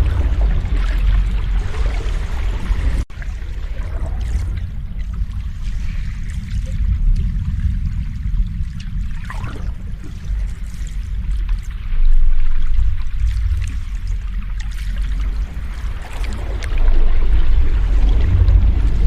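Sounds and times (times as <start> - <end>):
ocean waves rumbling surf: 0.0 - 19.0.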